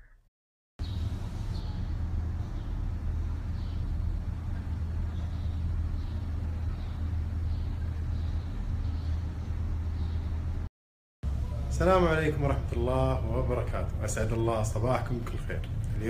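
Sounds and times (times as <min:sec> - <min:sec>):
low outdoor rumble: 0:00.8 - 0:16.0.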